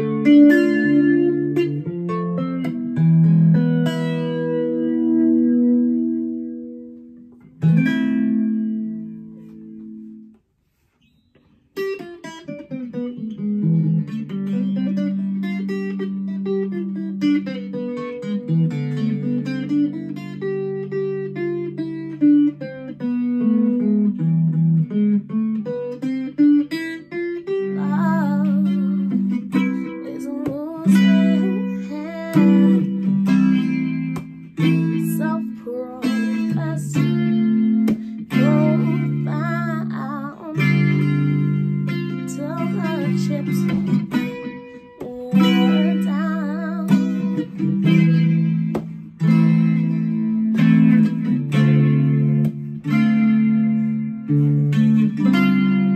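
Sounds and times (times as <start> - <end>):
electric ukulele playing: 0.0 - 10.3, 11.8 - 55.9.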